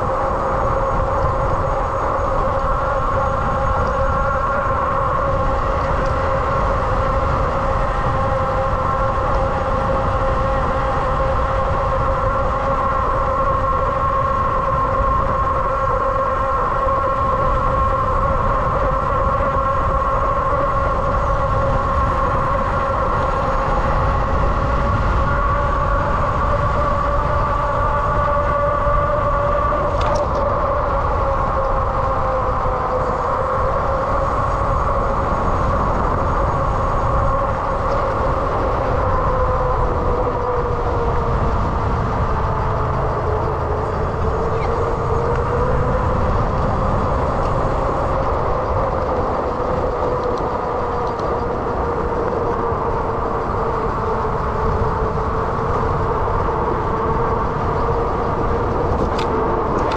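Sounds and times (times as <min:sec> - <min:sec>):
electric motor whine: 0:00.0 - 0:59.9
wind rumble on microphone: 0:00.0 - 0:59.9.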